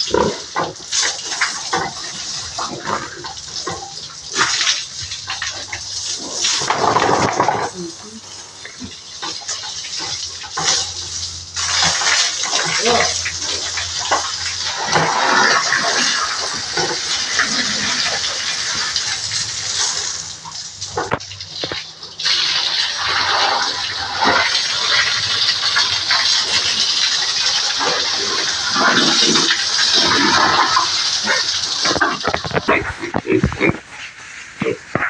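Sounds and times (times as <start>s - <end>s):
hose water spraying on concrete: 0.0s - 35.0s.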